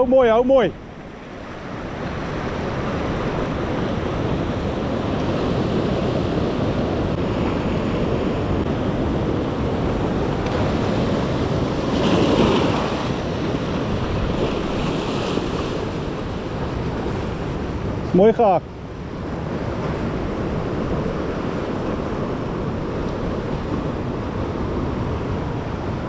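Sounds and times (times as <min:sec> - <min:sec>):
surf washing over rocks: 0:00.0 - 0:26.0.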